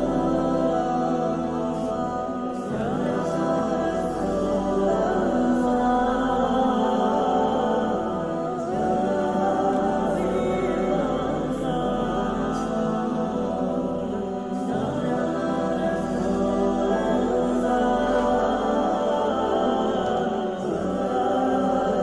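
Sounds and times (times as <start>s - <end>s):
a cappella voices singing: 0.0s - 22.0s.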